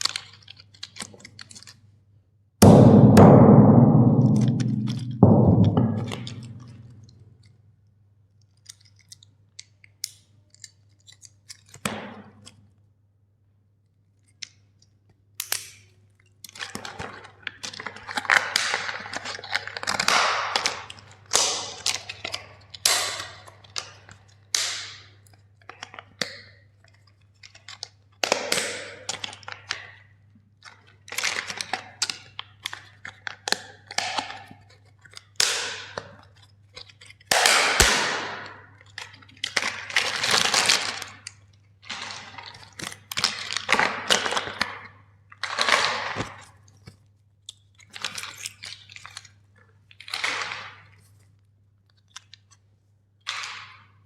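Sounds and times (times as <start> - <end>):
plastic toys cracking and crunching: 0.0 - 1.8, 8.4 - 12.6, 14.2 - 30.0, 30.6 - 54.0.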